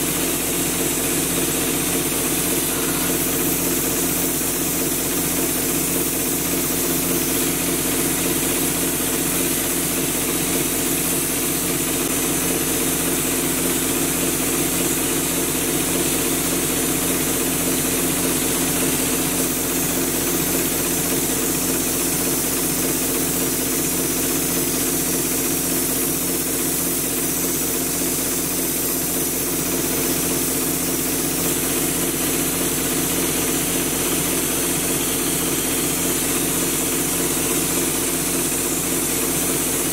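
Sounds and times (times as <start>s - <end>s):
air compressor running: 0.0s - 39.9s
steady hiss of air: 0.0s - 39.9s.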